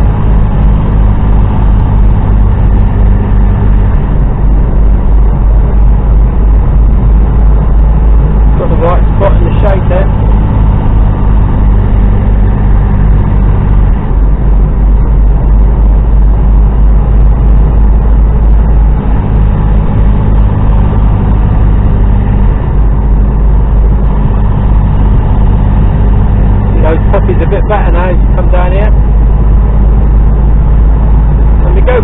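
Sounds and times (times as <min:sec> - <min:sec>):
truck engine and road noise: 0:00.0 - 0:32.0.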